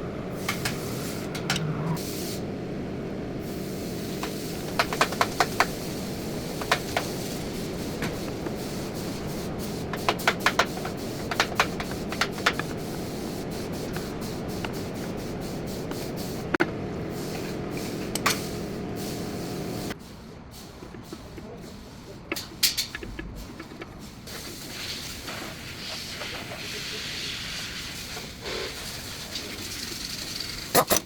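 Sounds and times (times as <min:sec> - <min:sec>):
steady low hum: 0:00.0 - 0:27.6.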